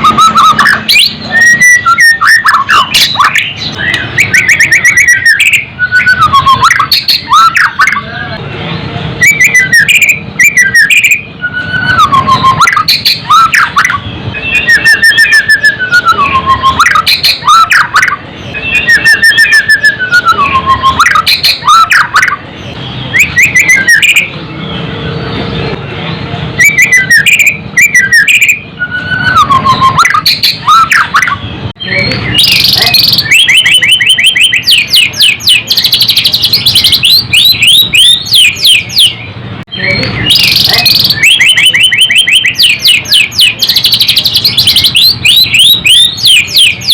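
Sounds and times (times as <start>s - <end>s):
bird singing whistled phrases: 0.0s - 8.4s, 9.2s - 22.4s, 23.0s - 24.4s, 26.6s - 46.9s
rapid high chattering trill: 0.0s - 24.4s, 26.5s - 46.9s.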